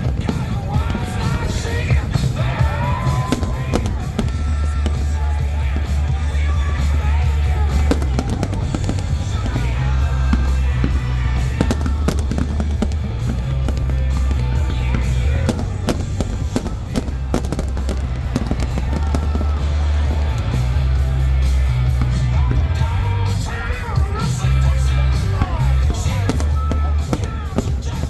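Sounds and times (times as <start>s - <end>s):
fireworks bursting and crackling: 0.0s - 28.0s
loud music with heavy bass: 0.0s - 28.0s.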